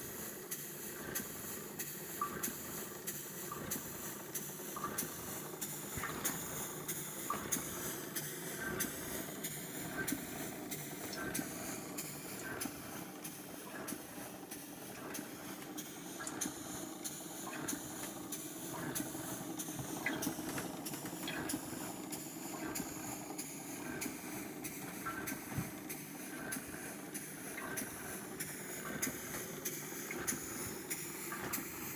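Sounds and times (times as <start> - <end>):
model steam engine running: 0.0 - 31.9.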